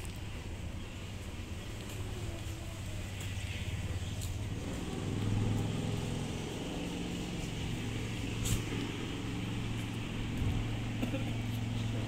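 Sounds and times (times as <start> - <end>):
vehicle engine running: 0.3 - 12.0.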